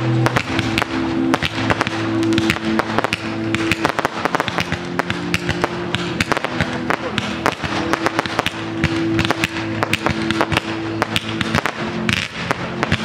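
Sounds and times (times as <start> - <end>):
fireworks popping and banging: 0.0 - 13.0
music with sustained notes: 0.0 - 13.0.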